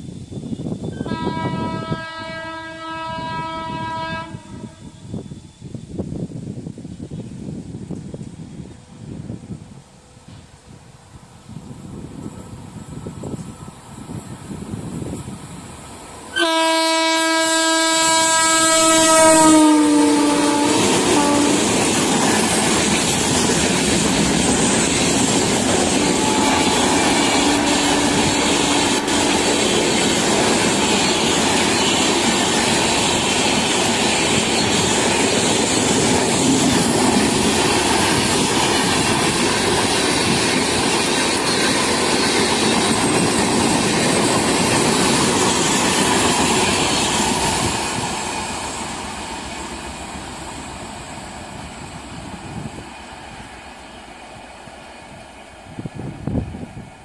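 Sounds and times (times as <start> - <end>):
train wheels rushing and rattling: 5.0 - 16.4, 17.9 - 57.0.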